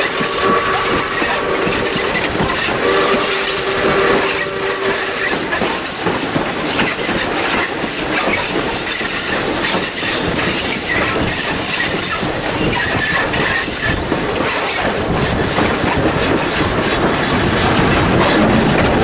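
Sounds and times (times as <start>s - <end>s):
train wheels on track: 0.0s - 19.0s.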